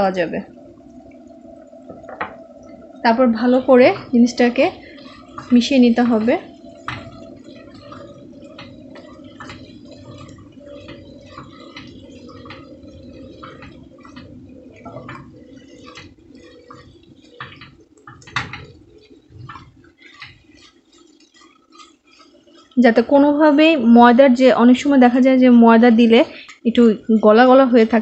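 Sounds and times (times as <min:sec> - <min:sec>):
steady low hum: 0:00.0 - 0:28.0
spatula stirring and scraping food: 0:01.8 - 0:28.0.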